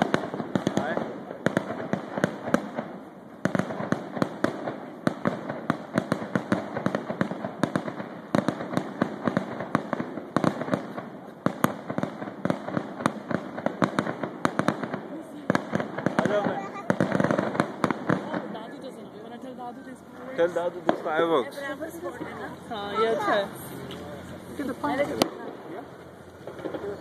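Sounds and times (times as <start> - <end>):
fireworks bangs and cracks: 0.0 - 27.0.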